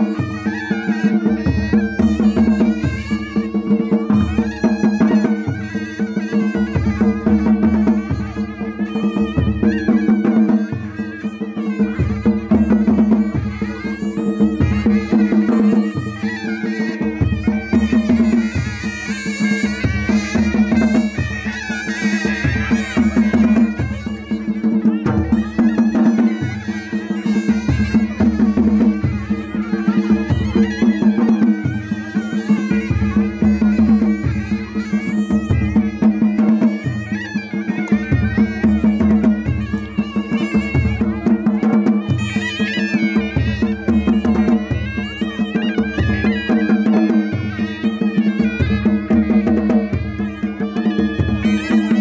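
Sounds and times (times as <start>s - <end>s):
reedy shawm melody: 0.0s - 52.0s.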